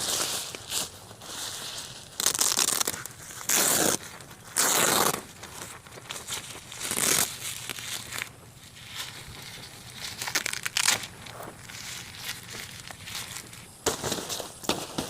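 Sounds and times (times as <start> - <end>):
crinkly sheet material crinkling: 0.0 - 15.0.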